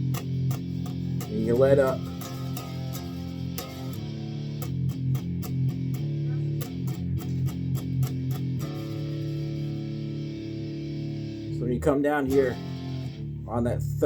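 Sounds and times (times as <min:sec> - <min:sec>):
palm-muted guitar strokes: 0:00.0 - 0:13.2
guitar chord ringing open: 0:00.0 - 0:13.5.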